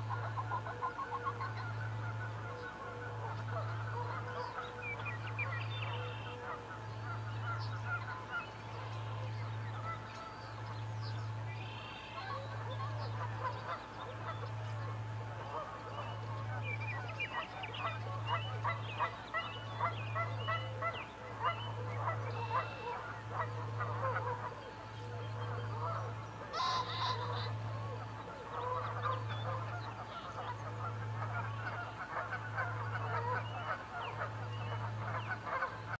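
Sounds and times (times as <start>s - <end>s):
birds honking chatter: 0.0s - 36.0s
pulsing low hum: 0.0s - 36.0s.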